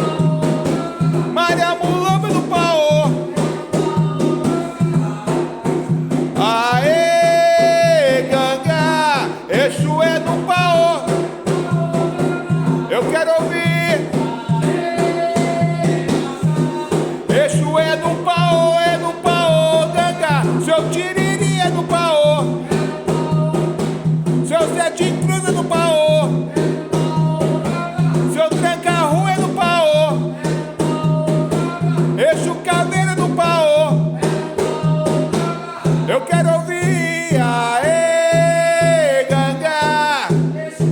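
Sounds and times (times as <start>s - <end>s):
percussion beat: 0.0s - 40.9s.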